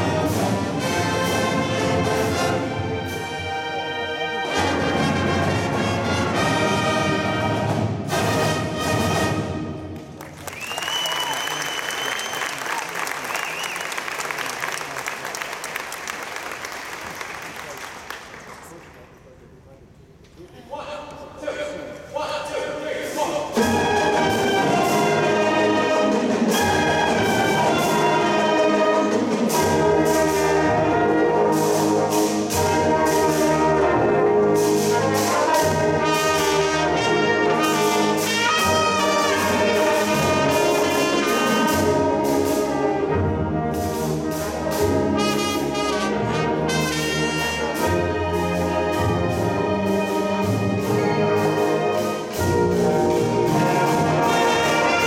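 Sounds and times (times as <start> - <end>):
marching band playing: 0.0 - 17.6, 22.4 - 55.0.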